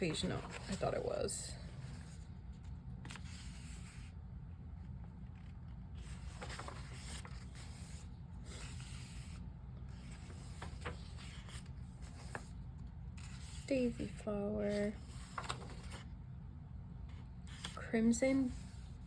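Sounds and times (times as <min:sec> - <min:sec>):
book pages turning: 0:00.0 - 0:16.2, 0:17.1 - 0:19.0
steady low hum: 0:00.0 - 0:19.0.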